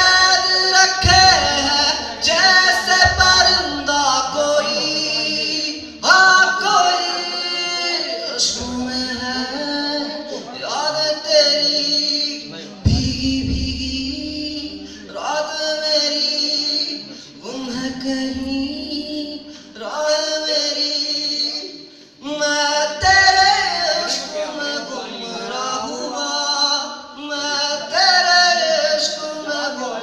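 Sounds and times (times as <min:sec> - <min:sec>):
man singing: 0:00.0 - 0:30.0.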